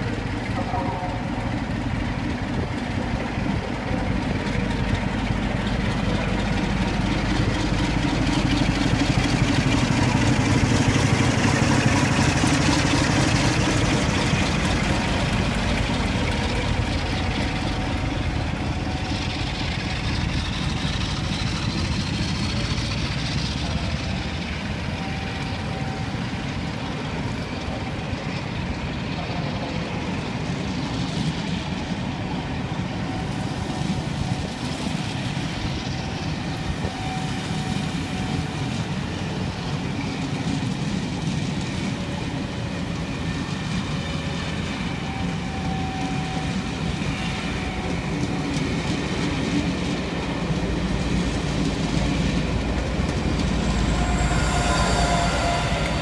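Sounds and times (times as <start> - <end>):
diesel locomotive engine: 0.0 - 56.0
train coaches rumbling on rails: 0.0 - 56.0.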